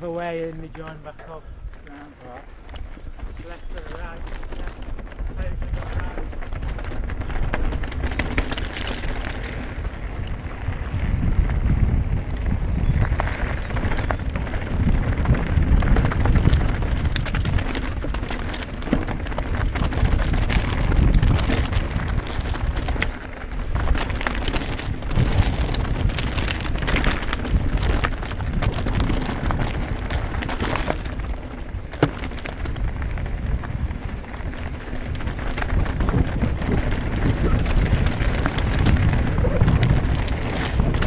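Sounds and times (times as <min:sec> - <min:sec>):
bike rattling: 0:00.0 - 0:41.0
bike tyres crunching on gravel: 0:00.0 - 0:41.0
wind on microphone: 0:00.0 - 0:41.0.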